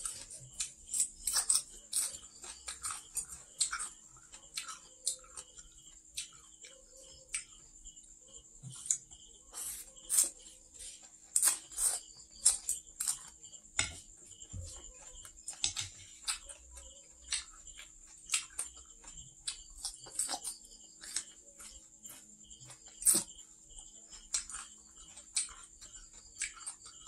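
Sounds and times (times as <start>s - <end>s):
chewing and slurping: 0.0s - 27.0s.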